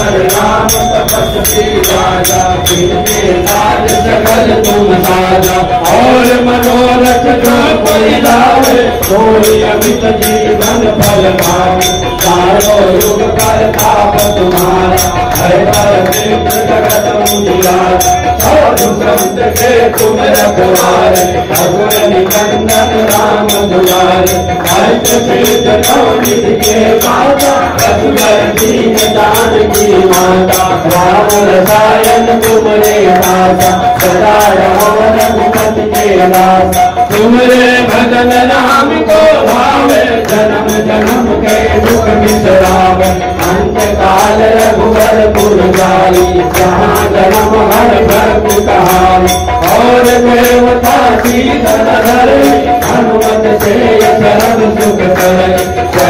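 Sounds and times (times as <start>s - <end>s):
devotional hymn chanted melodically: 0.0s - 56.0s
jingling percussion beat: 0.0s - 56.0s.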